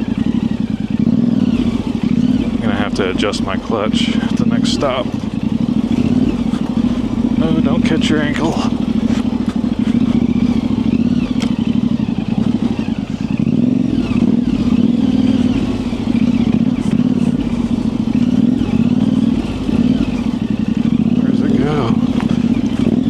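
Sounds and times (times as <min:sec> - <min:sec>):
motorcycle engine at low revs: 0:00.0 - 0:23.0.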